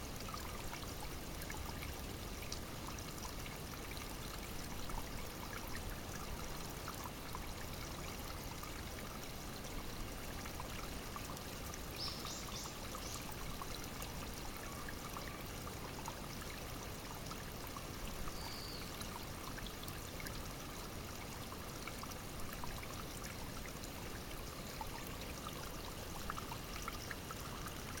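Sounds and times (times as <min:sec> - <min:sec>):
brook babbling and trickling: 0:00.0 - 0:28.0.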